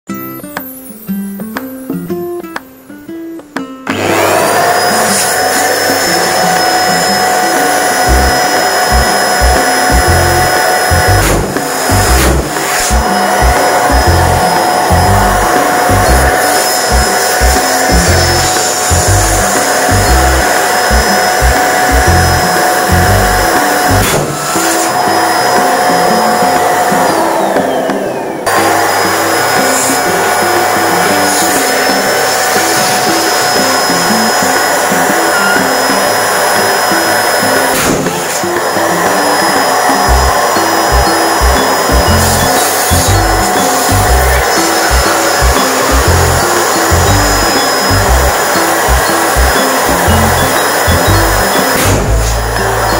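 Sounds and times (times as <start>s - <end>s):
music: 0.0s - 52.9s
electric balloon pump whine: 3.9s - 52.9s.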